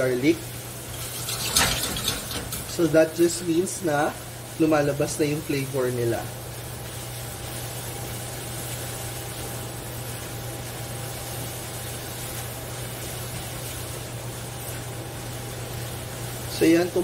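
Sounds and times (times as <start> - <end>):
onion and garlic sizzling in a pan: 0.0 - 17.0.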